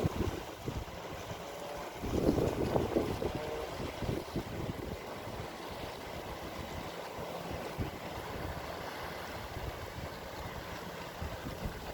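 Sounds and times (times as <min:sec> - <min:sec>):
sea water washing: 0:00.0 - 0:11.9
wind buffeting microphone: 0:00.0 - 0:11.9.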